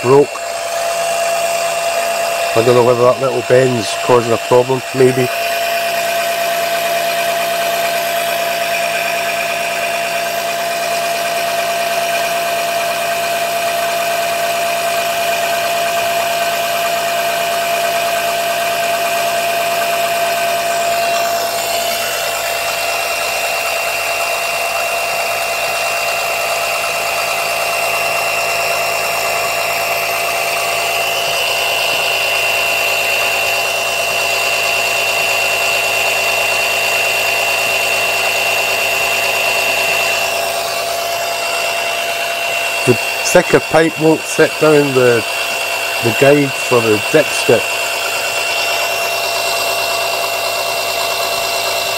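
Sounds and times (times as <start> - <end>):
oil suction pump whining: 0.0 - 51.9.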